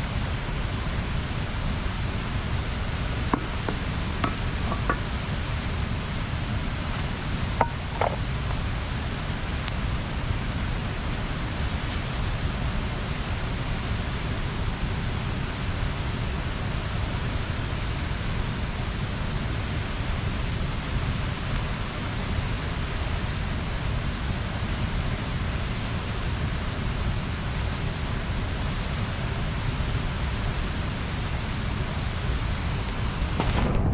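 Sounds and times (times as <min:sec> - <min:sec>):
bonfire flames rushing: 0:00.0 - 0:33.9
faint fire crackles: 0:00.0 - 0:33.9.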